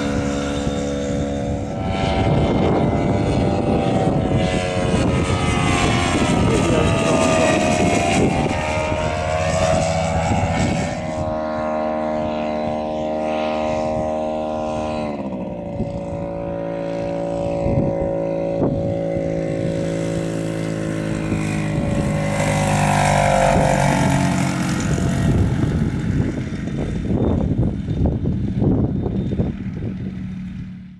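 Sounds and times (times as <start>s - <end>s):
propeller aircraft engine droning: 0.0s - 30.9s.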